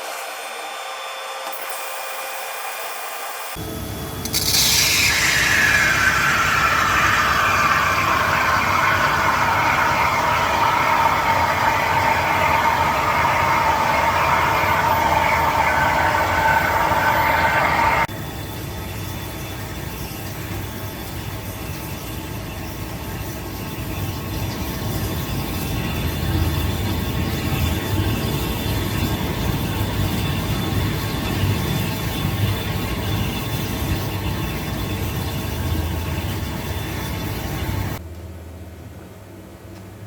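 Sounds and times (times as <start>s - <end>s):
milling machine cutting whine: 2.4s - 38.0s
machine hum: 3.6s - 40.0s.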